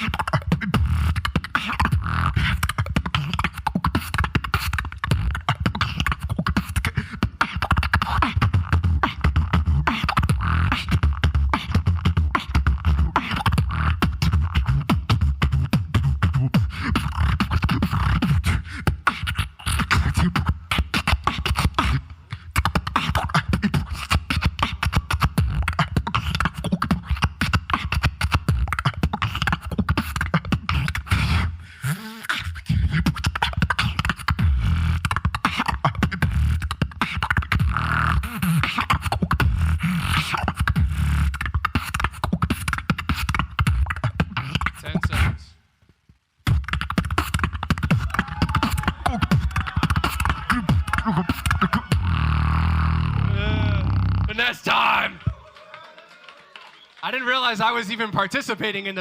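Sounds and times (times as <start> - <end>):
beatboxing: 0.0 - 55.6.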